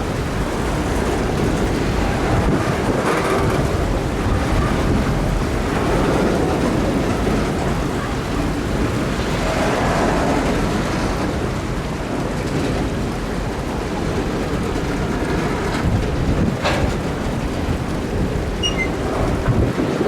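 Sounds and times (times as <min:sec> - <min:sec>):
train low rumble: 0:00.0 - 0:20.0
water churning and sloshing: 0:00.0 - 0:20.0.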